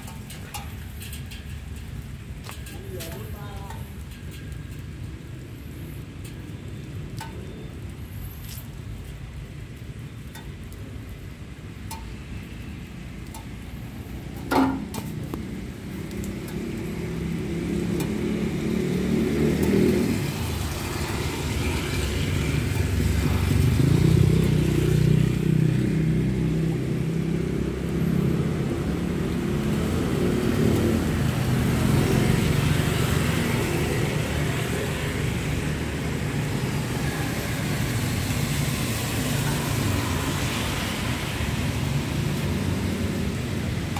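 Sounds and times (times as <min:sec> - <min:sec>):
traffic on wet street: 0:00.0 - 0:43.9.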